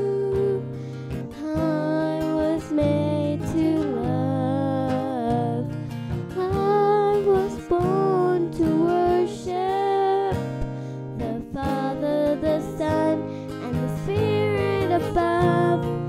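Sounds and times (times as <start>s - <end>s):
girl singing: 0.0s - 16.0s
strummed acoustic guitar: 0.0s - 16.0s.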